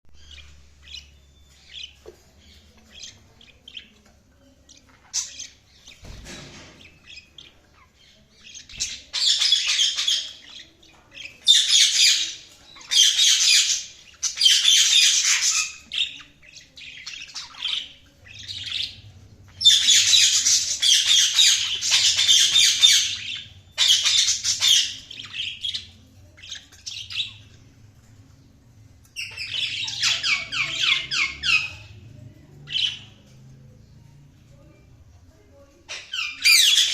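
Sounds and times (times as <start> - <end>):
budgerigars chirping and warbling: 0.2 - 33.9, 35.5 - 36.9.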